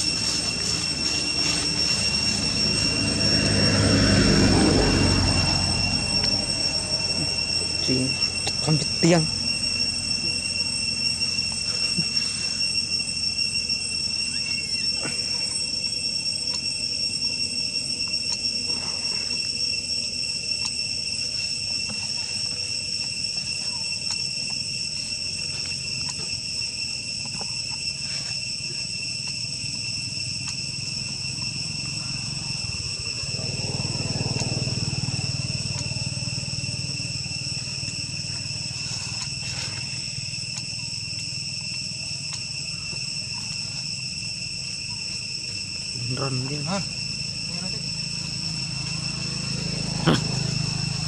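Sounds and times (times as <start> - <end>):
high-pitched insect drone: 0.0 - 51.0.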